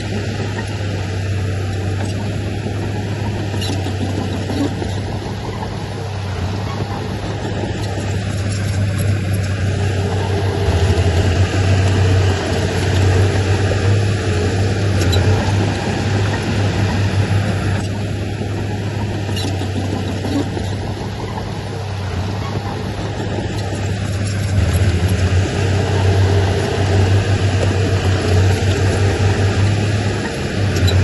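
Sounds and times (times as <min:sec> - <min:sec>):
diesel machinery engine drone: 0:00.0 - 0:31.0.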